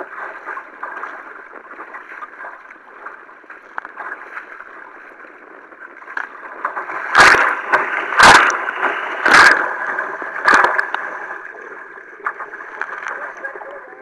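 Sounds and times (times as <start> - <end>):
paddle splashing water: 0.0 - 14.0
water rushing along kayak: 0.0 - 14.0.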